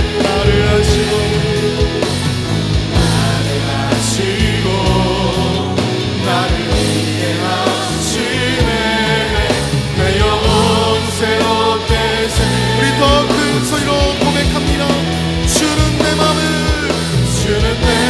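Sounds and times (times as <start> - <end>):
group of singers: 0.0 - 18.0
worship band with drums: 0.0 - 18.0.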